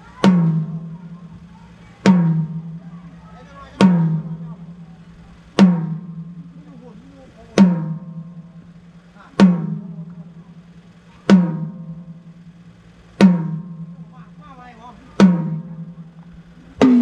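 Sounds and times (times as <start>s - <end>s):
drum hits with low ringing tone: 0.0s - 17.0s.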